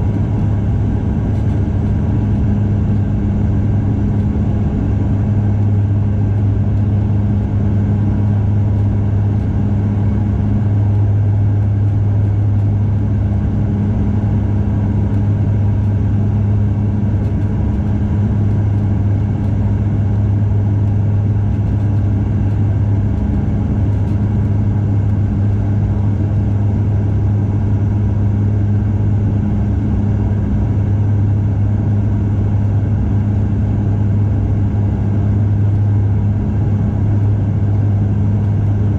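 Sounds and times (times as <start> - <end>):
turboprop cabin drone: 0.0 - 38.9.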